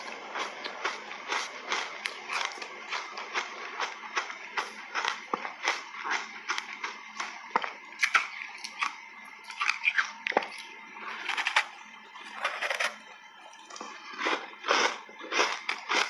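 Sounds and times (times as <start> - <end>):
chewing cupcake: 0.0 - 11.7, 13.6 - 16.0.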